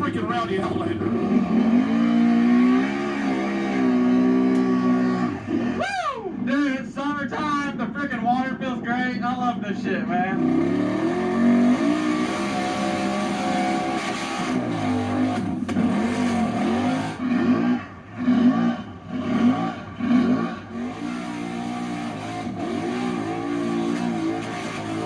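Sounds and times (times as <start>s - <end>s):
atv engine revving: 0.0s - 6.6s, 10.1s - 25.0s.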